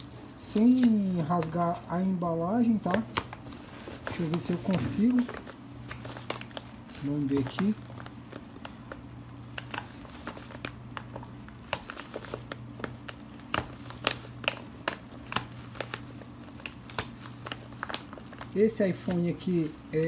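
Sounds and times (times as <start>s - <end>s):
plastic mailer crinkling: 0.0s - 20.0s
steady low hum: 0.0s - 20.0s.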